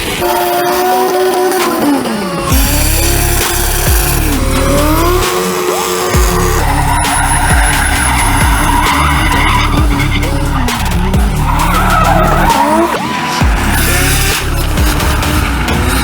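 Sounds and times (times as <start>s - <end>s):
car engines revving hard: 0.0s - 16.0s
tyres skidding and squealing: 0.0s - 16.0s.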